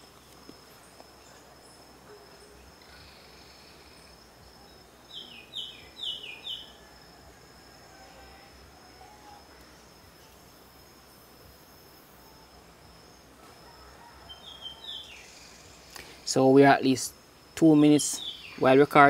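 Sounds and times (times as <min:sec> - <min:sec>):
high insect buzz: 0:00.0 - 0:19.0.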